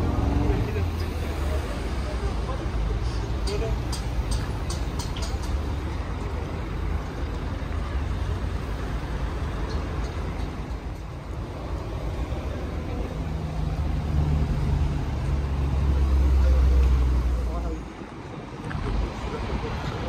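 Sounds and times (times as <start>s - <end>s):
diesel bus engine rumbling: 0.0s - 20.0s.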